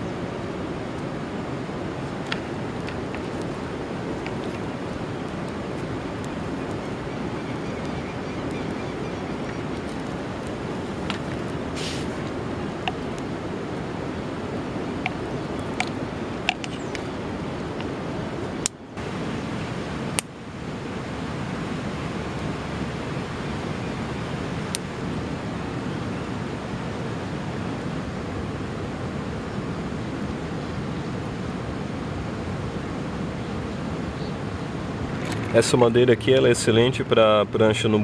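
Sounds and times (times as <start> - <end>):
tinder burning with crackles: 0.0 - 37.0.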